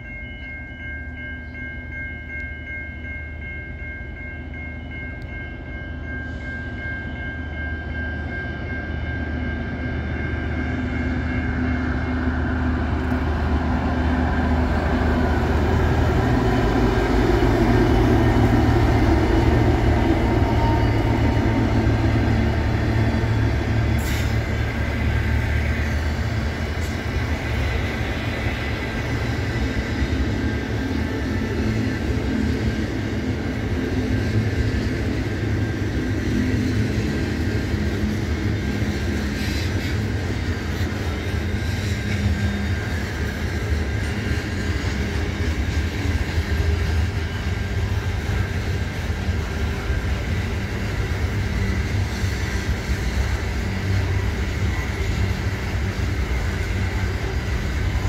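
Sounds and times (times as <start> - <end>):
train wagons rolling on rails: 0.0 - 58.0.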